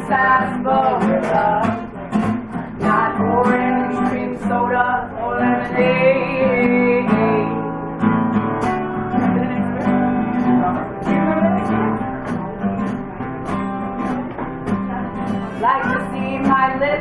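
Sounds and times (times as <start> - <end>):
acoustic guitar strumming: 0.0 - 17.0
person singing folk song: 0.0 - 17.0.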